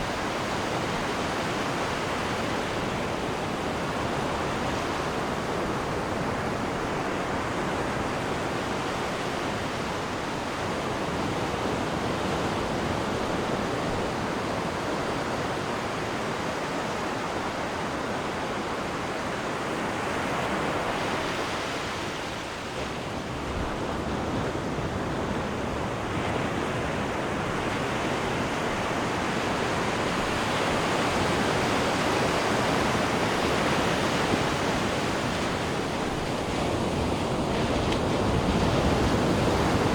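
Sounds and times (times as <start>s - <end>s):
rush of churned seawater: 0.0s - 39.9s.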